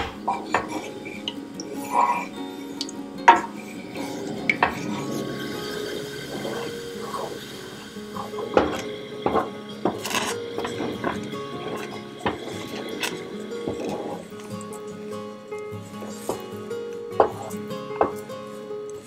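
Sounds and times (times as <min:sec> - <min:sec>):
wooden spatula scraping saucepan: 0:00.0 - 0:16.5, 0:17.2 - 0:18.3
soft background music: 0:00.0 - 0:19.0.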